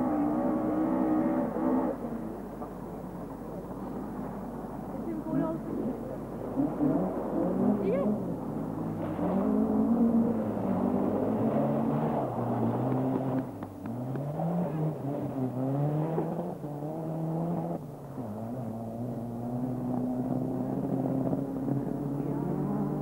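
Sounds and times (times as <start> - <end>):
rally car engine revving: 0.0 - 2.7, 5.8 - 23.0.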